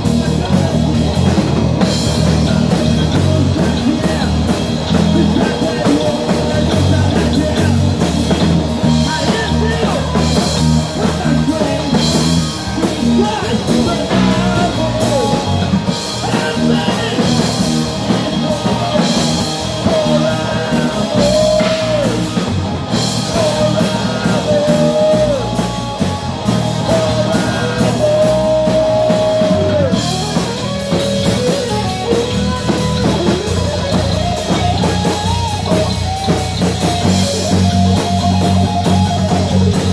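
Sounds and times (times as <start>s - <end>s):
bass guitar: 0.0s - 39.9s
distorted electric guitars: 0.0s - 39.9s
drum kit: 0.0s - 39.9s
person singing: 0.0s - 39.9s.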